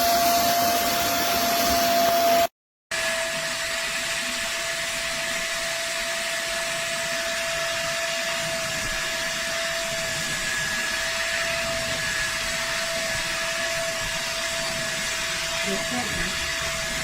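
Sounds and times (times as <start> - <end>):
carpet cleaner suction motor whine: 0.0 - 17.0.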